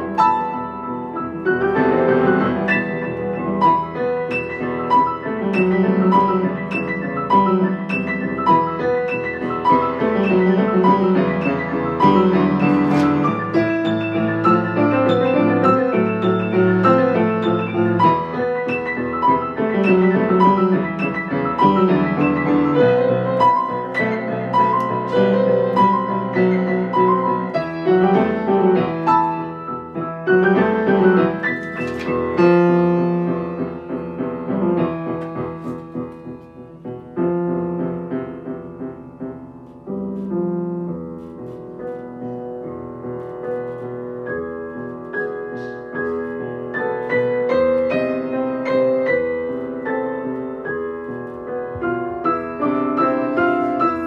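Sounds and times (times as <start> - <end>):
solo piano playing: 0.0 - 54.0.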